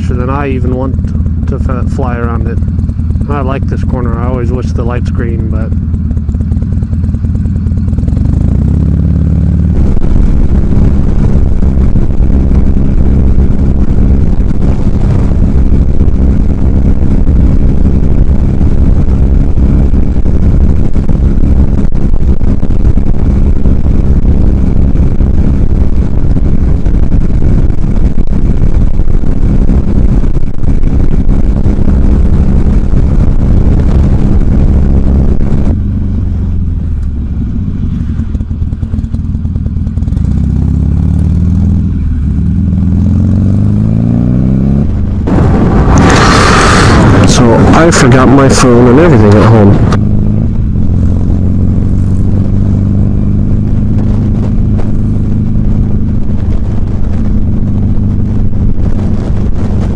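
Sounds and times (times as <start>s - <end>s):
motorcycle engine accelerating: 0.0s - 59.9s
wind and road noise: 0.0s - 59.9s.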